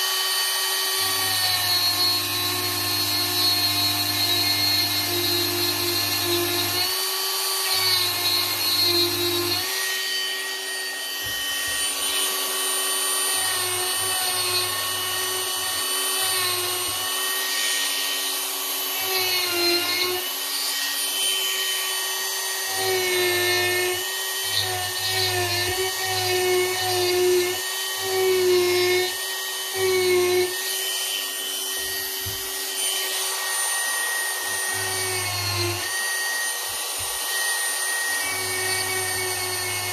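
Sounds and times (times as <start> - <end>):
rotary tool carving wood: 0.0 - 39.9.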